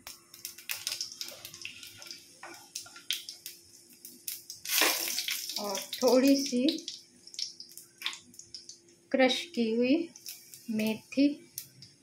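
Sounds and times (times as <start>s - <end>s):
oil crackling and popping: 0.0s - 8.9s, 10.1s - 10.8s, 11.5s - 12.0s
spices sizzling in hot oil: 0.0s - 12.0s.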